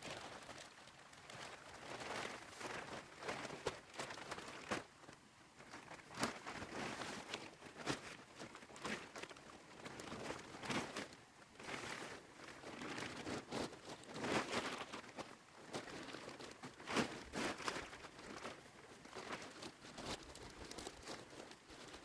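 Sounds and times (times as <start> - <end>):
plastic sheet crinkling: 0.0 - 22.0.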